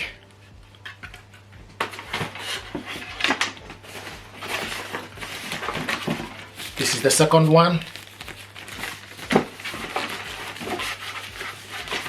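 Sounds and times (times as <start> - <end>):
packaging rustling: 1.0 - 12.0.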